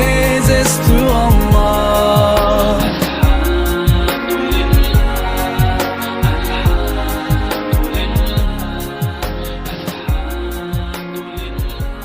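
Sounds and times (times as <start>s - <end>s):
deep drum beat: 0.0s - 11.0s
sustained chords: 0.0s - 12.0s.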